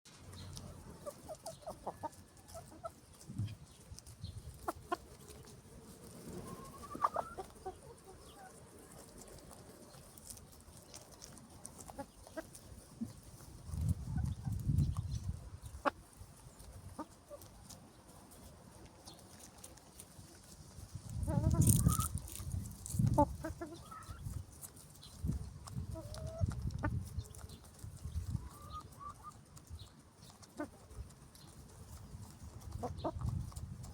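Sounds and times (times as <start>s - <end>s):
hen clucking: 0.1s - 33.9s.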